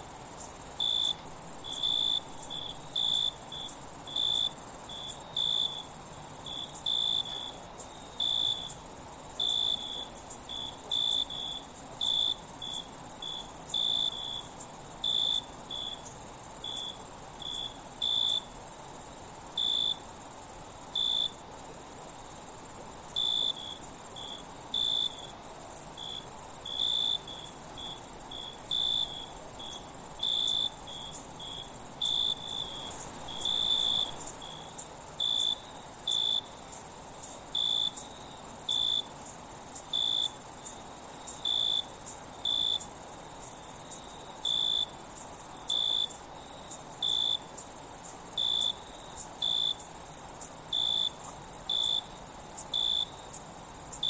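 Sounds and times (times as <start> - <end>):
crickets trilling: 0.0 - 54.0
lower insect chirping call: 0.0 - 54.0.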